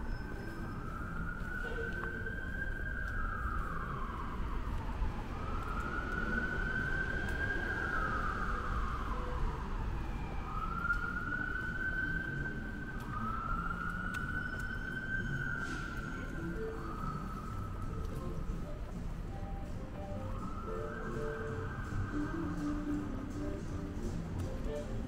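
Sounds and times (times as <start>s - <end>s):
siren wailing: 0.0s - 19.0s, 19.6s - 23.7s.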